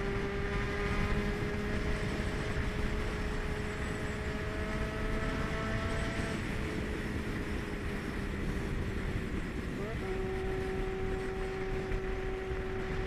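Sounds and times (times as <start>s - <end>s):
motorcycle engine cruising: 0.0s - 13.0s
road rumble: 0.0s - 13.0s
wind noise: 0.0s - 13.0s.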